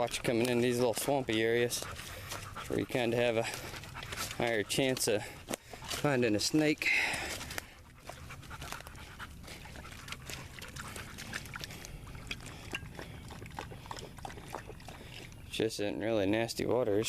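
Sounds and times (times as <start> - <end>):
dog panting: 0.1 - 15.5.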